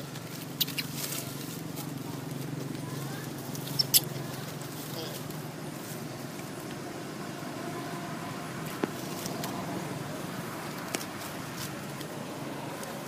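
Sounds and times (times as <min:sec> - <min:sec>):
dry leaves crackling: 0:00.0 - 0:13.0.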